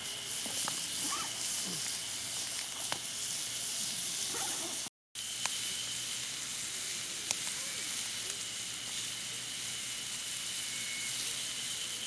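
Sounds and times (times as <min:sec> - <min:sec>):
campfire hissing: 0:00.0 - 0:12.0
fire crackle: 0:00.1 - 0:12.0.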